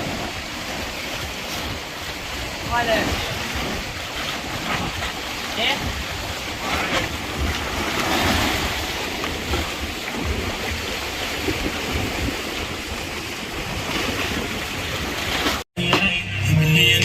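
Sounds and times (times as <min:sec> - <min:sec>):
sea surf washing on shore: 0:00.0 - 0:15.7.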